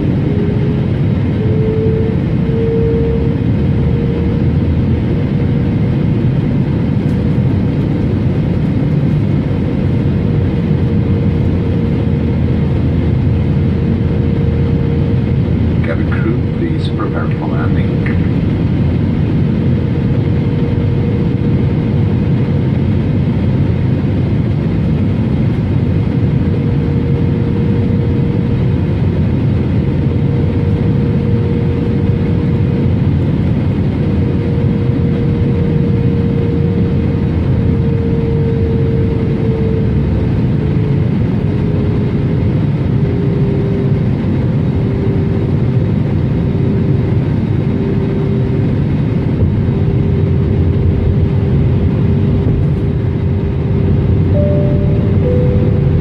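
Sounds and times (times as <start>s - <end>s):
airplane engine drone: 0.0s - 56.0s.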